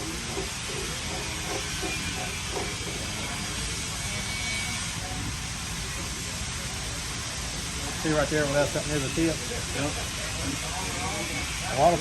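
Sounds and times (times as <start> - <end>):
grinding wheel hissing against steel: 0.0 - 12.0.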